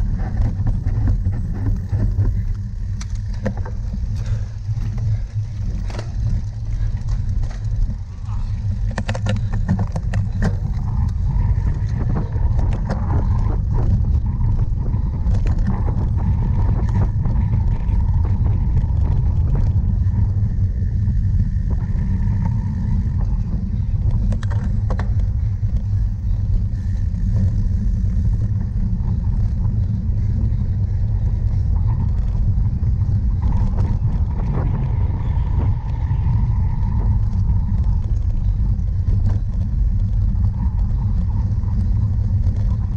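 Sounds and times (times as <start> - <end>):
bike clicks and rattles: 0.0 - 42.9
wind rumble on microphone: 0.0 - 42.9.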